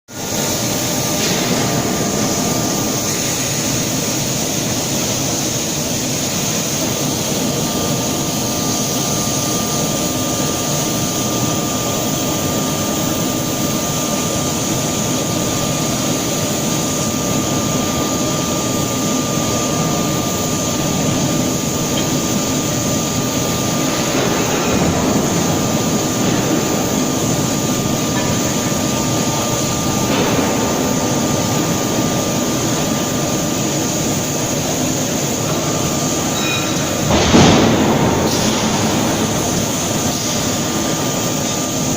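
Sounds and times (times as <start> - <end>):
high machine whine: 0.1 - 41.9
loud industrial machinery roar: 0.1 - 41.9.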